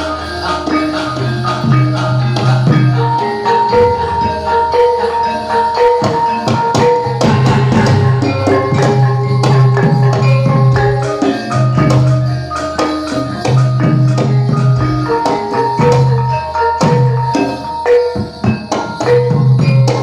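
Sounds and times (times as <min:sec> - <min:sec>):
drums playing steady rhythm: 0:00.0 - 0:20.0
metallophones ringing: 0:00.0 - 0:20.0.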